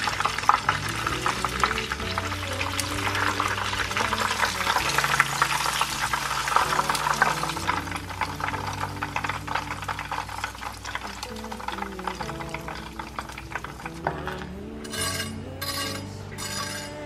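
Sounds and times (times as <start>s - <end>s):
chicken sizzling in hot oil: 0.0s - 15.8s.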